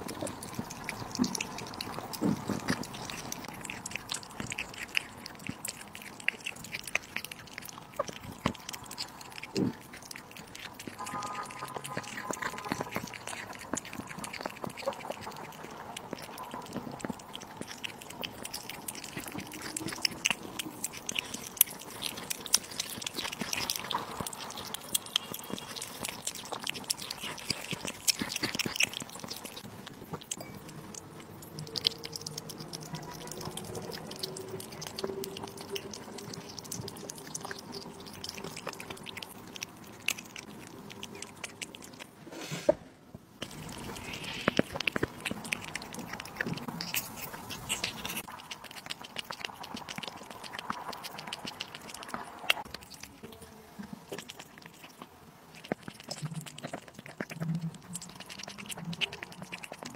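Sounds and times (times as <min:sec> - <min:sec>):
kitten licking: 0:00.0 - 0:42.6, 0:43.4 - 0:59.9
kitten chewing and smacking: 0:00.0 - 0:59.9.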